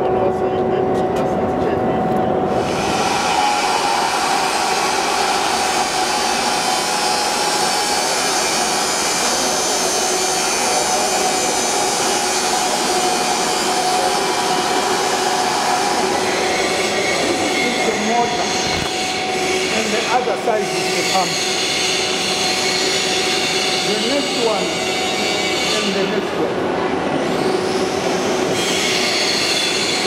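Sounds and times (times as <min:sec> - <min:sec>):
electric water pumps whirring: 0:02.3 - 0:30.0.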